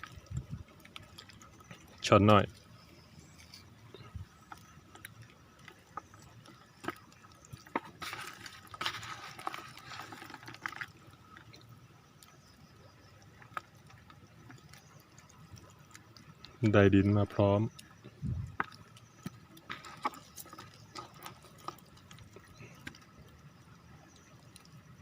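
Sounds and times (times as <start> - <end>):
water splashing and dripping: 0.0 - 25.0.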